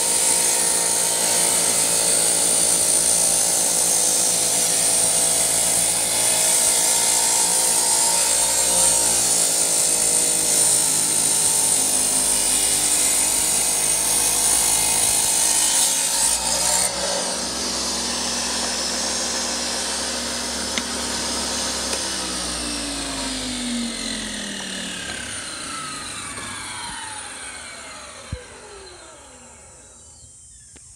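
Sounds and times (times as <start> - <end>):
tile saw cutting tiles: 0.0 - 30.9.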